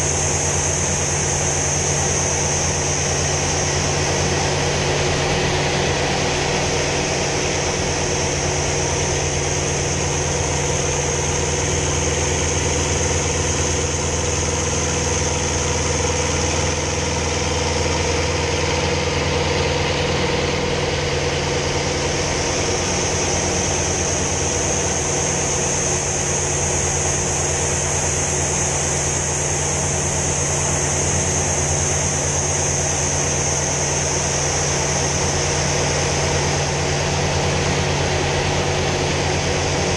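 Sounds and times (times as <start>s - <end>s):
piston engine droning: 0.0s - 39.9s.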